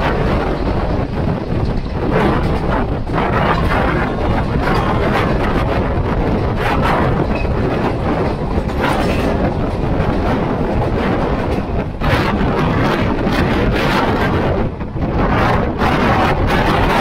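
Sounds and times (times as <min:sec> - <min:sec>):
train coaches rumbling: 0:00.0 - 0:17.0
train wheels clattering over rails: 0:00.0 - 0:17.0.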